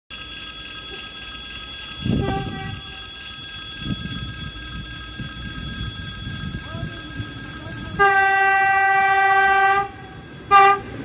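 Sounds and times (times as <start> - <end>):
faint high whines: 0.1 - 11.0
train low rumble: 0.1 - 11.0.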